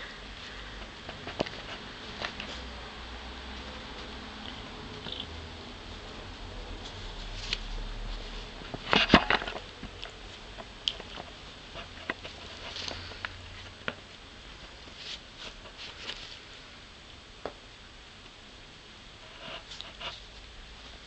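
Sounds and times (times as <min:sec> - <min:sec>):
kitten rustling and scratching: 0:00.2 - 0:16.8, 0:19.2 - 0:21.0.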